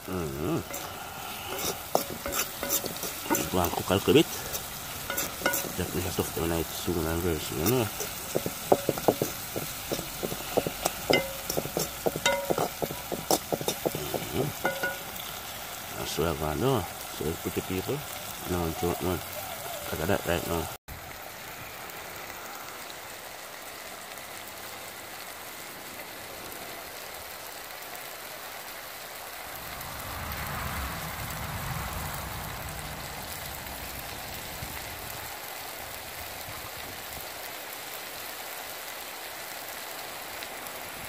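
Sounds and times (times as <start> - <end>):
vegetables sizzling in oil: 0.0 - 30.5, 31.2 - 41.0.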